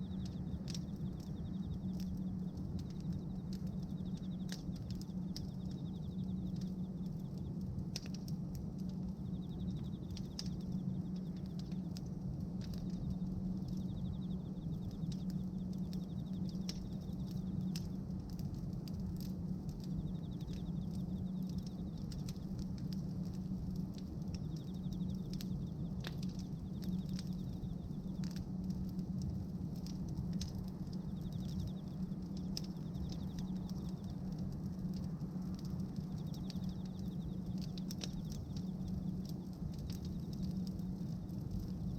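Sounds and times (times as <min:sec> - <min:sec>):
bonfire crackling: 0:00.0 - 0:41.9
steady low hum: 0:00.0 - 0:41.9
sharp pops and snaps: 0:00.1 - 0:41.9.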